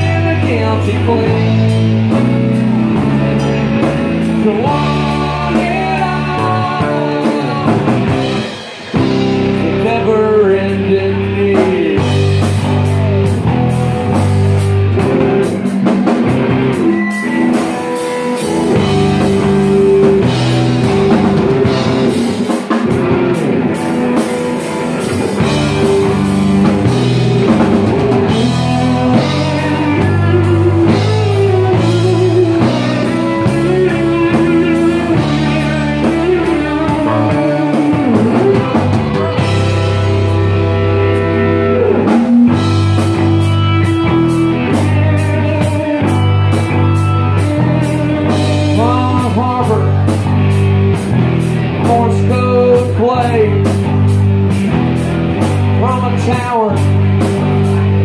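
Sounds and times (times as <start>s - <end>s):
drum kit with cymbals: 0.0s - 58.0s
electric bass line: 0.0s - 58.0s
electric guitar with bent notes: 0.0s - 58.0s.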